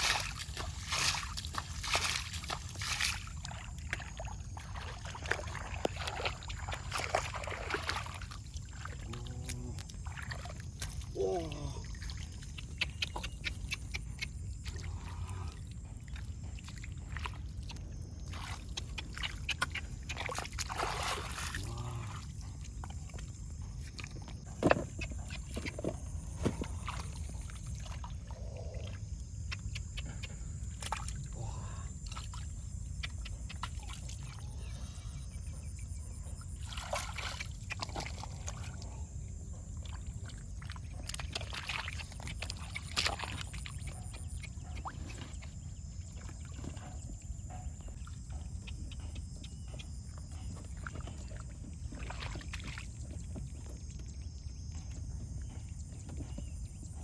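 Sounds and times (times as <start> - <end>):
water splashing and sloshing: 0.0 - 34.7, 35.9 - 56.9.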